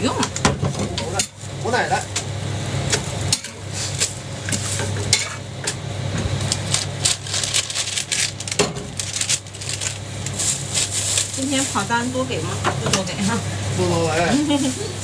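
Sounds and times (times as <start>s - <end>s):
light sizzling: 0.0s - 15.0s
steady low hum: 0.0s - 15.0s.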